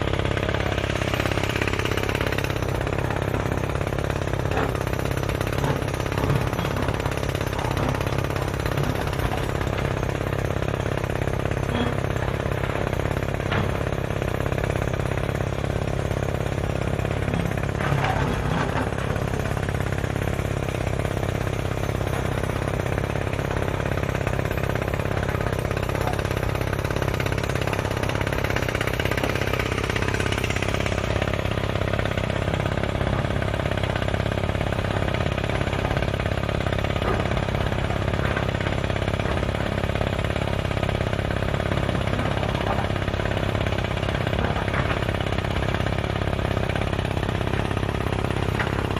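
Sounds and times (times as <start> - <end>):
drilling rig hammering: 0.0 - 48.9.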